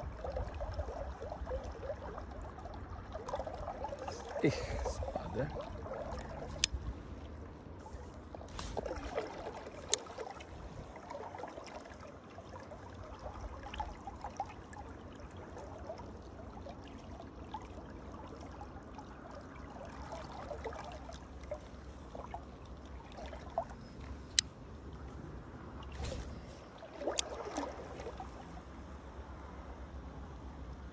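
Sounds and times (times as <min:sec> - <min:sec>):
river water babbling: 0:00.0 - 0:30.9.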